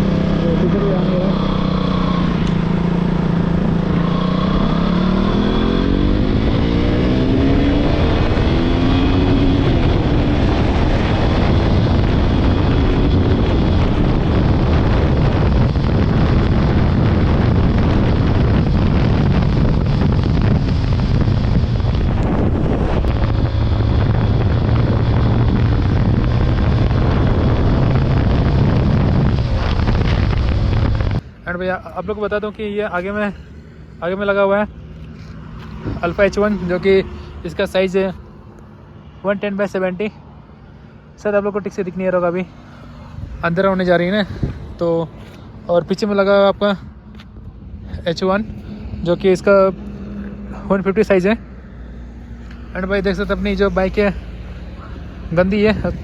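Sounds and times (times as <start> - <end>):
loud rushing noise: 0.0 - 39.2, 40.3 - 56.0
motorcycle engine accelerating: 0.0 - 56.0.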